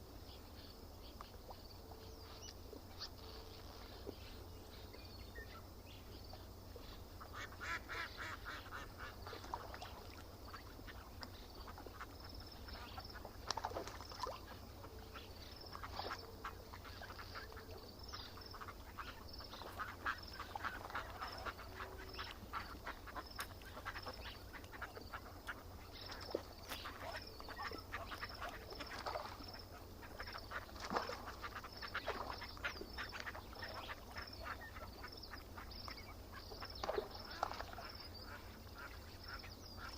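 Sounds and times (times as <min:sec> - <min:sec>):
birds calling rapidly: 0:03.8 - 0:39.9.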